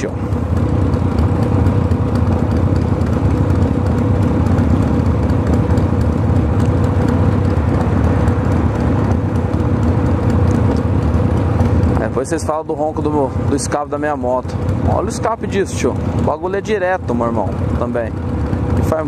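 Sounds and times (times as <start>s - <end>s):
loud motorcycle exhaust: 0.0s - 19.0s.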